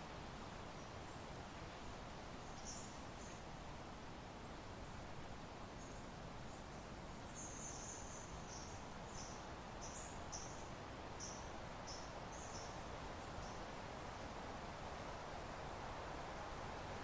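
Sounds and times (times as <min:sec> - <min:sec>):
soft wind: 0:00.0 - 0:17.0.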